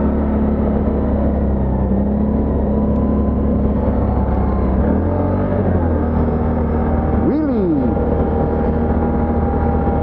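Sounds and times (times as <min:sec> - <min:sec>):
atv engine droning: 0:00.0 - 0:10.0.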